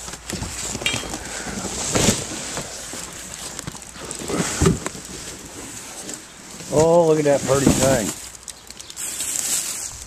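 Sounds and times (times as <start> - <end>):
packing paper crinkling: 0.0 - 10.0.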